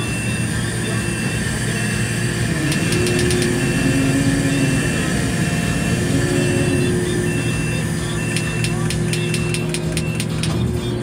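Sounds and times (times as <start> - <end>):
crane motor running: 0.0 - 11.0
high warning beeps: 0.0 - 11.0.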